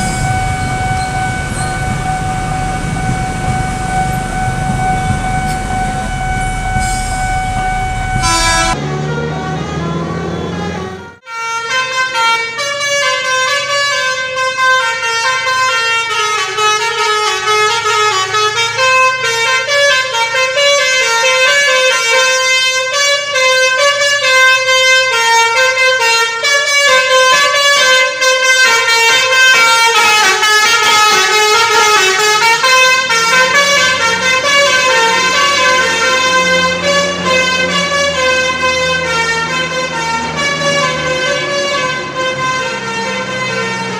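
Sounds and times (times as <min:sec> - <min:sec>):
musical horn playing a tune: 0:03.9 - 0:43.9.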